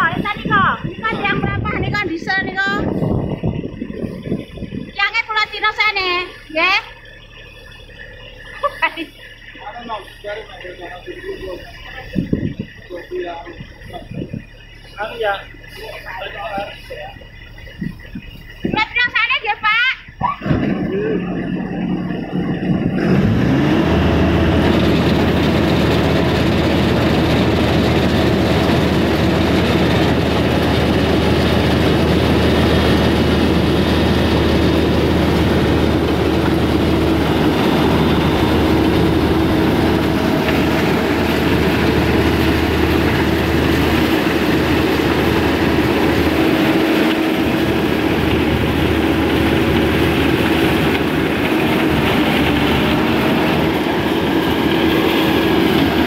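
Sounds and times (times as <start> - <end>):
combine harvester rumble and clatter: 0.0 - 56.0.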